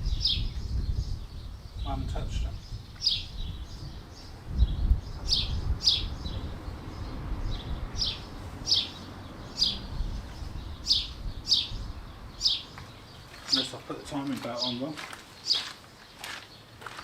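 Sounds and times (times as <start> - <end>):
small bird chirping: 0.0 - 16.7.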